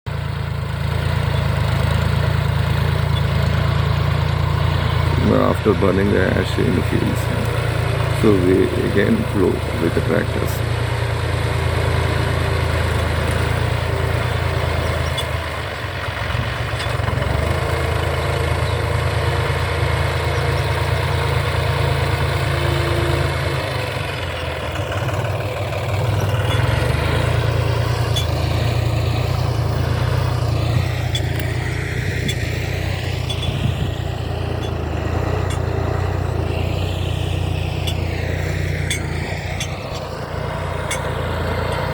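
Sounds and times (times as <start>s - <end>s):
tractor engine running: 0.1s - 41.9s.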